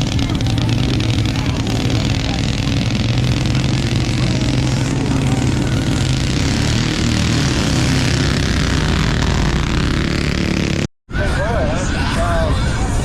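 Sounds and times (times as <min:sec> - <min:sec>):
mini bike engines racing: 0:00.0 - 0:13.0.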